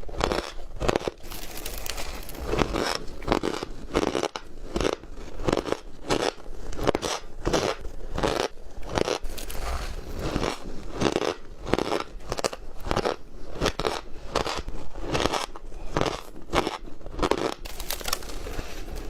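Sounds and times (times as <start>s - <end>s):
ice being chewed: 0.0s - 19.0s.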